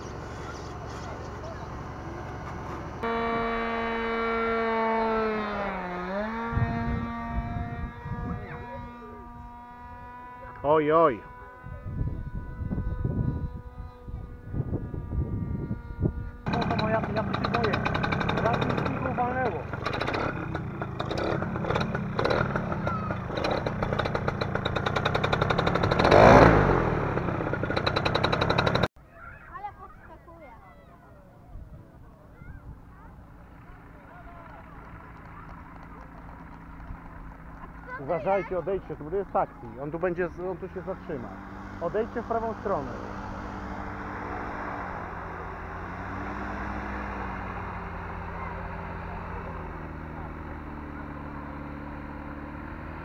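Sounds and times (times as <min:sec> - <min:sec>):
paramotor engine running: 0:00.0 - 0:28.9, 0:32.6 - 0:53.0.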